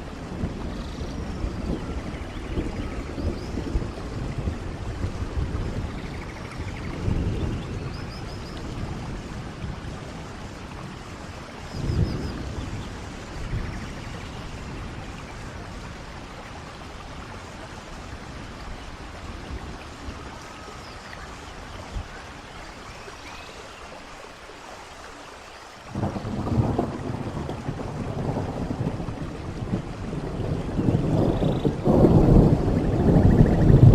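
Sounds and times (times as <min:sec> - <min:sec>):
rain and waterfall hiss: 0:00.0 - 0:33.9.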